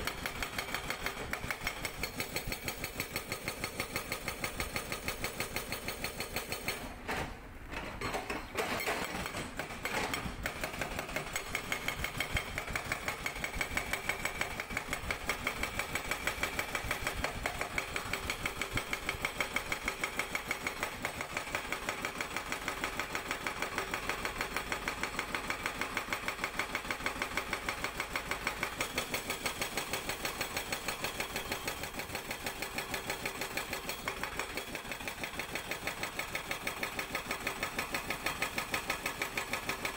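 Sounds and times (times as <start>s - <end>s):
hydraulic breaker hammering rock: 0.0s - 39.9s.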